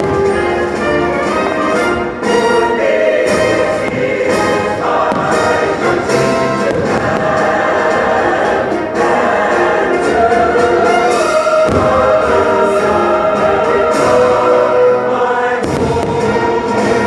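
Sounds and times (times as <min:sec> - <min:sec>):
choir singing with orchestra: 0:00.0 - 0:17.0.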